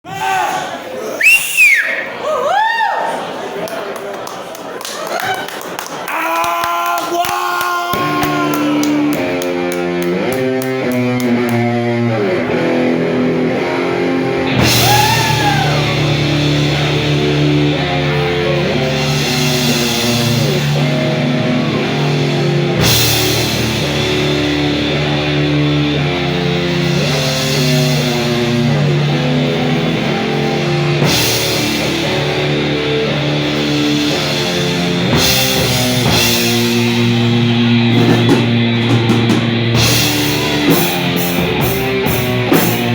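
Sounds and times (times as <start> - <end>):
heavy rock band playing: 7.9 - 42.9
electric guitar riff: 8.0 - 42.9.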